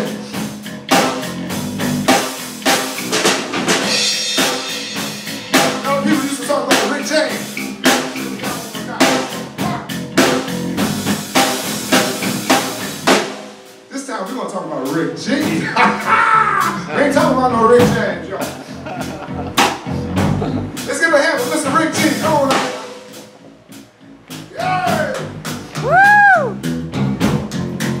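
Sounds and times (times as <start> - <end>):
drum kit beat: 0.0 - 28.0.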